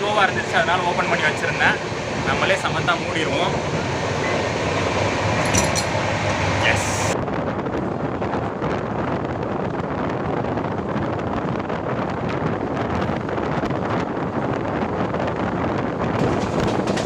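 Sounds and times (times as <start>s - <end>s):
train wheels on rail roar: 0.0s - 17.0s
wind buffeting microphone: 0.0s - 17.0s.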